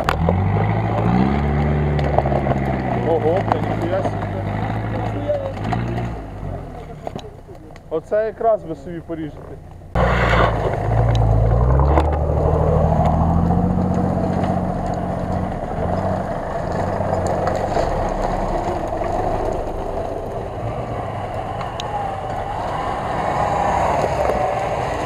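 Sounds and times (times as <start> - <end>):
suv engine pulling under load: 0.0 - 8.5, 9.3 - 25.0.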